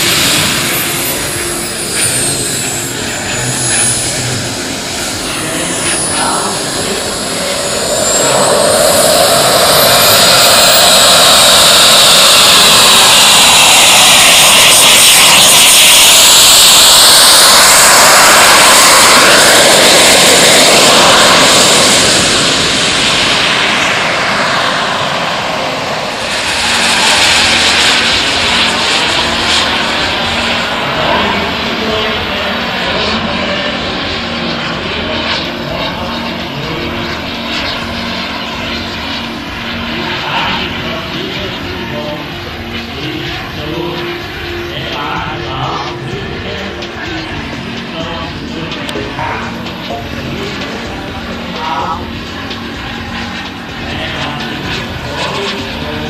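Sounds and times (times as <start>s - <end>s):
model jet turbine whine: 0.0s - 56.0s.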